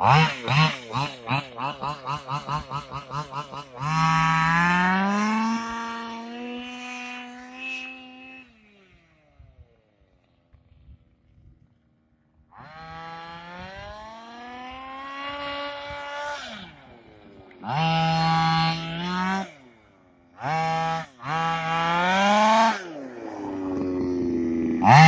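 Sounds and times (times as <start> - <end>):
rc car engine revving: 0.0 - 10.0, 12.5 - 25.0.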